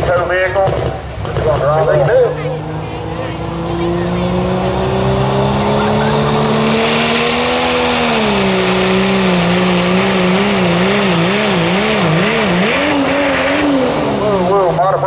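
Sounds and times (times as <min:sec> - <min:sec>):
truck engine revving under load: 0:00.0 - 0:15.0.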